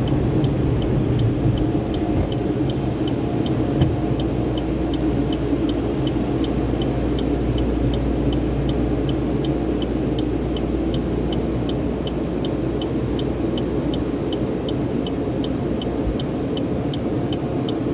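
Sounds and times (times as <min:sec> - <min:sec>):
car wash machinery rumble: 0:00.0 - 0:17.9
rapid high-pitched ticking: 0:00.0 - 0:17.9.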